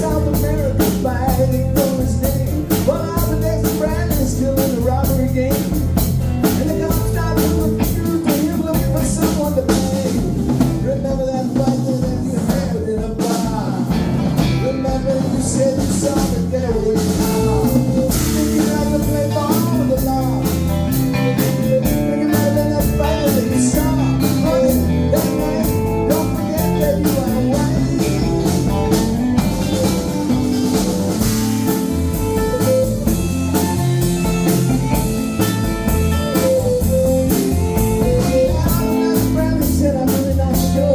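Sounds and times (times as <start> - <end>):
drum kit: 0.0 - 40.9
electric guitar: 0.0 - 40.9.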